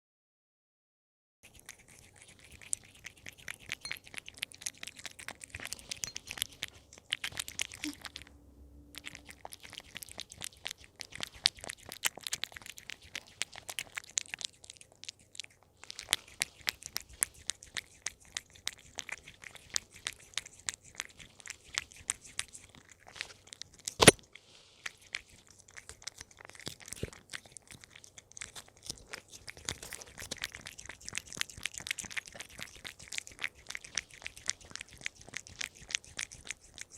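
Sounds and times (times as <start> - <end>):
cat chewing treats: 1.4 - 8.3, 8.9 - 36.9.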